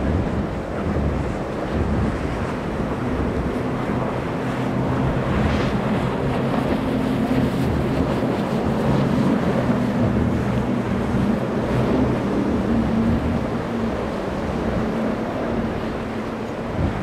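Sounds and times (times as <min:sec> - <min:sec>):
outboard engine drone: 0:00.0 - 0:17.0
spray and waves off hull: 0:00.0 - 0:17.0
wind buffeting microphone: 0:00.0 - 0:17.0.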